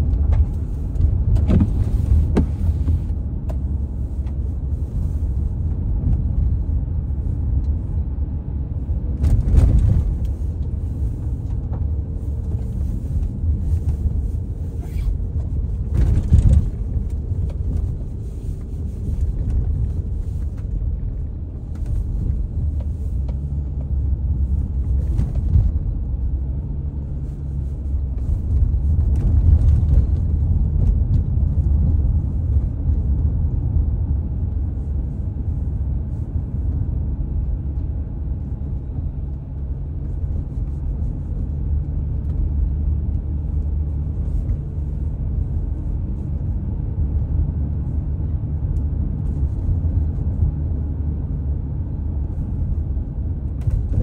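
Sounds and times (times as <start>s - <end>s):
car driving on wet streets: 0.0s - 54.0s.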